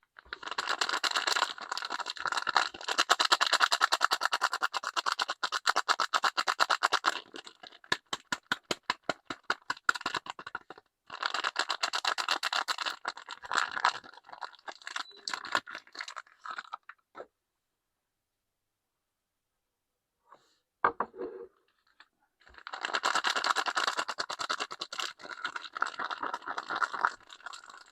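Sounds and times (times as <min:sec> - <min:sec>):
soap wrappers crinkling: 0:00.2 - 0:17.0, 0:21.7 - 0:27.9.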